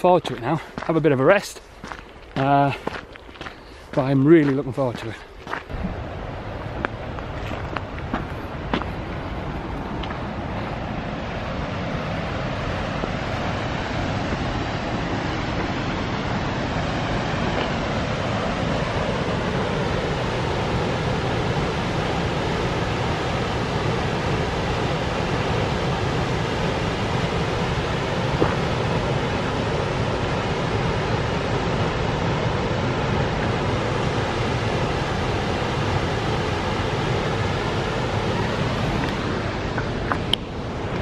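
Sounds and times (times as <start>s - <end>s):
waterfall rushing: 5.7s - 41.0s.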